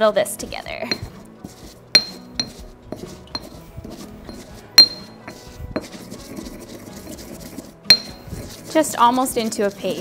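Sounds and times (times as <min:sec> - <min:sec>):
pestle grinding: 0:00.4 - 0:10.0
pestle clinking against mortar: 0:00.8 - 0:10.0.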